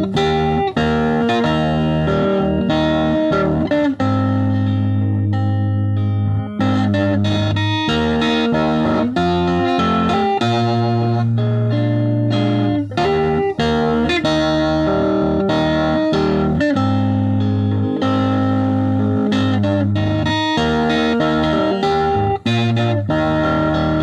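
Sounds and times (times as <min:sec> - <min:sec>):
electric guitar melody: 0:00.0 - 0:24.0.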